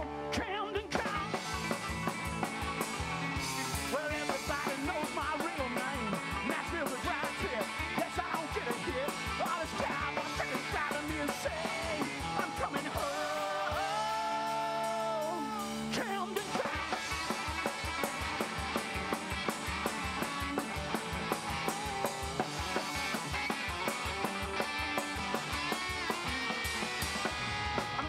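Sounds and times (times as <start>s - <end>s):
electric guitar lead with bent notes: 0.0s - 28.0s
rhythm guitar: 0.0s - 28.0s
upright bass: 0.0s - 28.0s
steady drum beat: 0.8s - 28.0s.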